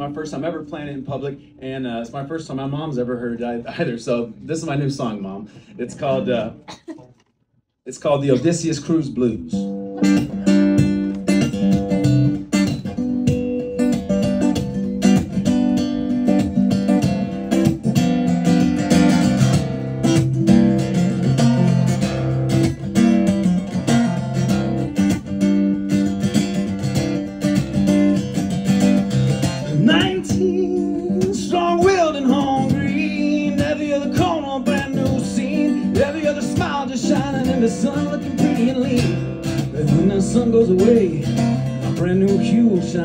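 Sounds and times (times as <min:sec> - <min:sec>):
acoustic guitar strumming blues: 0:00.0 - 0:07.3, 0:08.1 - 0:43.0.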